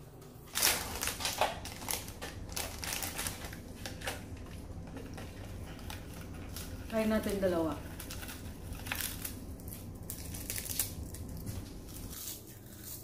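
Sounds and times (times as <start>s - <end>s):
seaweed crunching when chewed: 0.5s - 13.0s.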